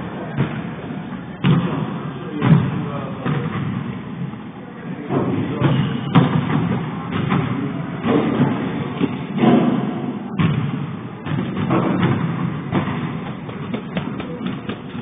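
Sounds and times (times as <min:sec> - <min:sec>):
busy gym din: 0:00.0 - 0:15.0.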